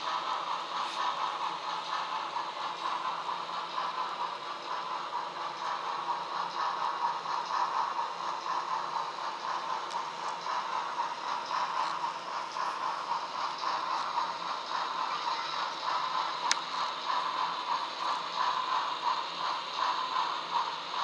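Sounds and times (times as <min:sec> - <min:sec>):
model steam locomotive sounds: 0:00.0 - 0:21.0
model train rattling on track: 0:00.0 - 0:21.0.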